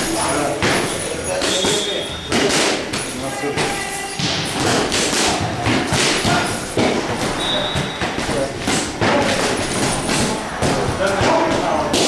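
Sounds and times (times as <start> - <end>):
punches smacking mitts: 0.0 - 12.0.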